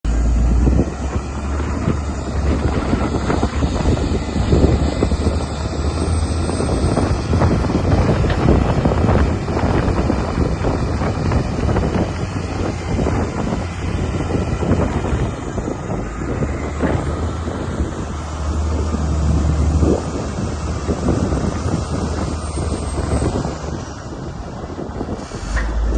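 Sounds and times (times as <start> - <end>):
diesel engine rumbling: 0.0 - 25.9.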